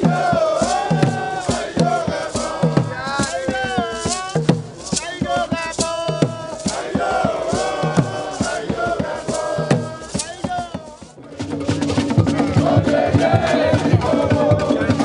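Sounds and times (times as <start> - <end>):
shaken rattles: 0.0 - 14.1
steady drumbeat: 0.0 - 15.0
voices singing: 0.0 - 15.0.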